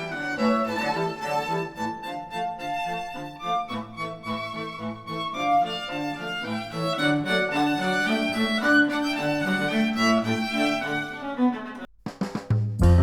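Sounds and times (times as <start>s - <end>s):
cello: 0.0s - 11.9s
violin music: 0.0s - 12.0s.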